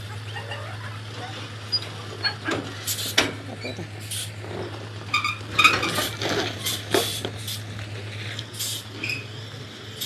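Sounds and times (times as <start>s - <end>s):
truck engine hum: 0.0s - 10.0s.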